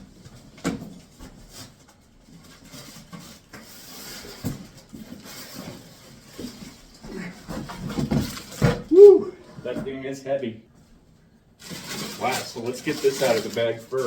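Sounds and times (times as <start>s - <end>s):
cardboard rustling and scraping: 0.0s - 8.9s, 11.6s - 14.0s.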